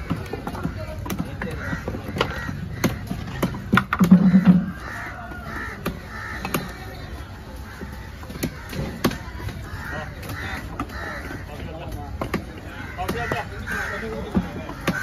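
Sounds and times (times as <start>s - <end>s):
harsh cawing calls: 0.0s - 15.0s.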